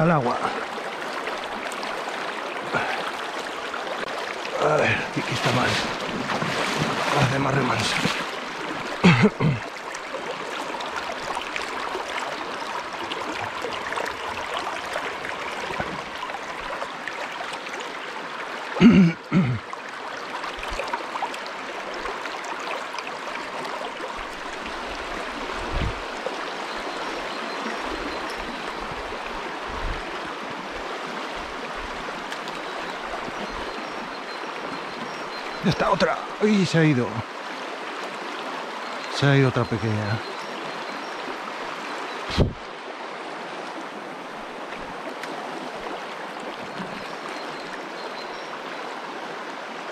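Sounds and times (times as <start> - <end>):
stream flowing over stones: 0.0 - 49.9.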